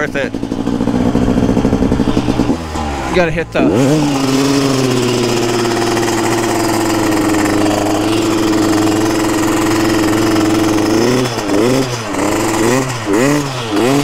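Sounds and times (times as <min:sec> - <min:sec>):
two-stroke motorcycle engine running: 0:00.0 - 0:14.0.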